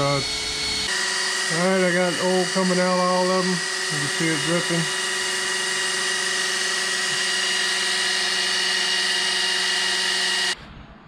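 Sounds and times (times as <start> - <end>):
electric drill motor whining: 0.0 - 10.6.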